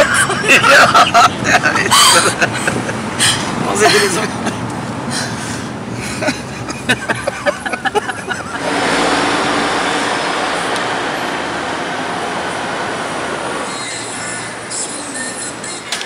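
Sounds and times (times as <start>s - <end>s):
city vehicle noise: 0.0s - 16.0s.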